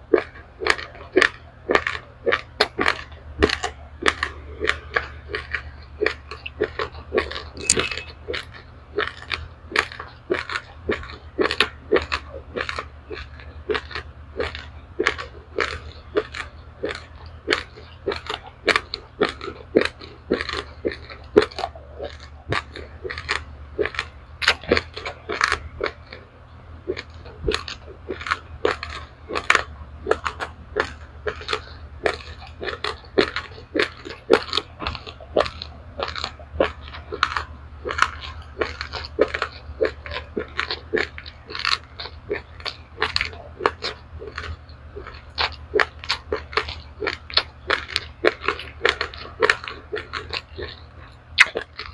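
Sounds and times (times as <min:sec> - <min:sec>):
person chewing crunchy rice: 0:00.0 - 0:51.9
steady low hum: 0:00.0 - 0:51.9.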